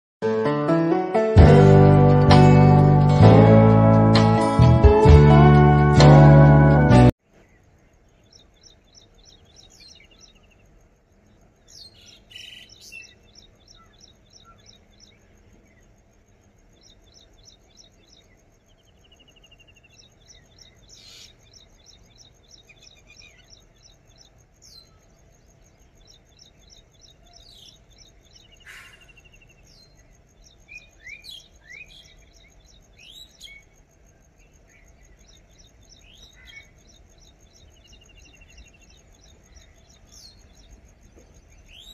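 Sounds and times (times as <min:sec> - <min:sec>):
fast pulsing birdsong: 0:07.2 - 0:41.9
birds chirping and trilling: 0:07.3 - 0:41.9.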